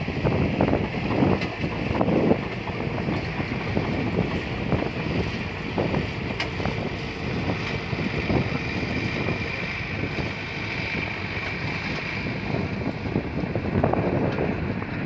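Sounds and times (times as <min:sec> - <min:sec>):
bulldozer diesel engine running: 0:00.0 - 0:15.0
steady high whine: 0:00.0 - 0:15.0
wind buffeting microphone: 0:00.0 - 0:15.0.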